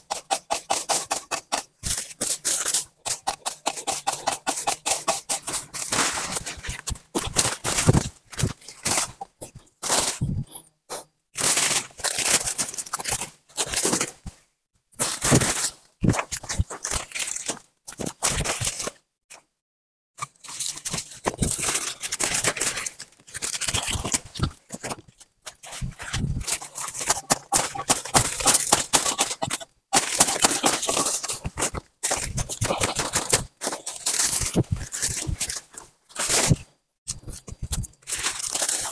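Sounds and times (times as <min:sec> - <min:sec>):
rustling and crunching leaves: 0:00.0 - 0:10.3, 0:11.4 - 0:14.2, 0:15.0 - 0:19.0, 0:20.2 - 0:38.9.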